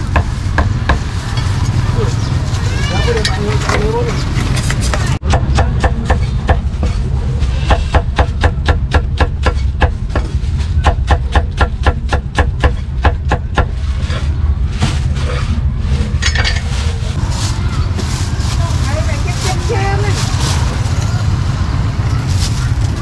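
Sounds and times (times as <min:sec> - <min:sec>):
steady low rumble: 0:04.1 - 0:23.0.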